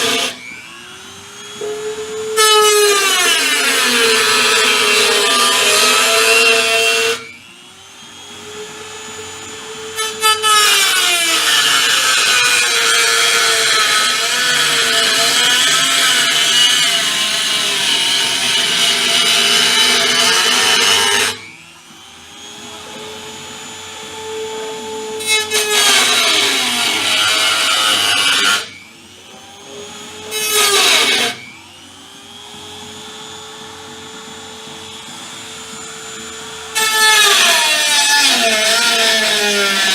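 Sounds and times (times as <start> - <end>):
power tool grinding sheet metal: 0.0 - 39.9
power tool spinning whine: 0.0 - 39.9.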